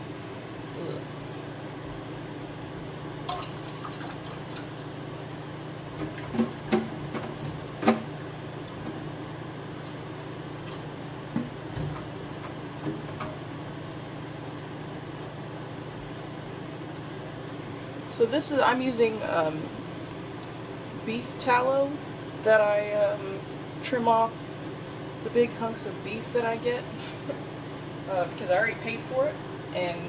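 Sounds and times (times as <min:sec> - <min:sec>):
induction cooktop hum: 0:00.0 - 0:30.0.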